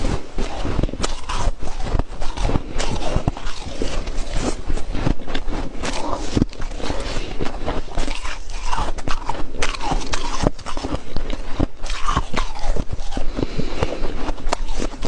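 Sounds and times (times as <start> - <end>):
frost being chewed: 0.0 - 15.0.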